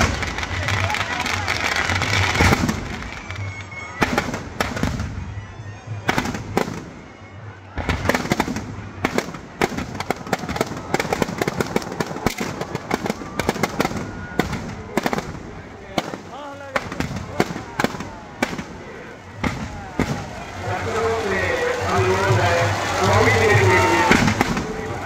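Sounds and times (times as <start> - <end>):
firecracker bangs: 0.0 - 5.3, 6.1 - 7.1, 7.8 - 25.0
firecrackers crackling: 0.0 - 5.4, 6.0 - 25.0.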